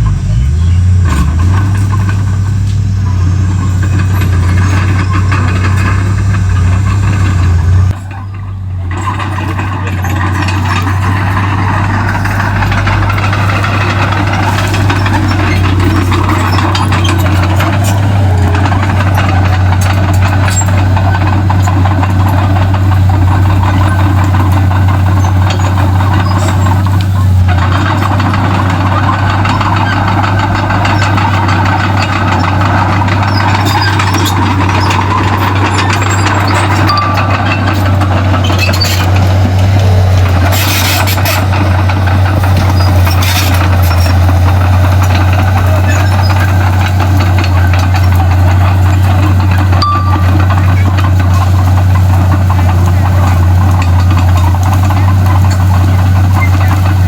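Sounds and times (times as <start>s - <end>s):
bulldozer diesel engine humming: 0.0s - 57.0s.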